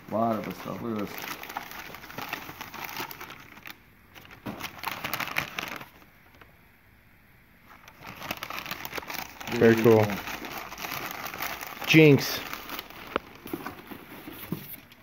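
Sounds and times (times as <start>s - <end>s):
newspaper crinkling and rustling: 0.0s - 6.5s, 7.7s - 15.0s.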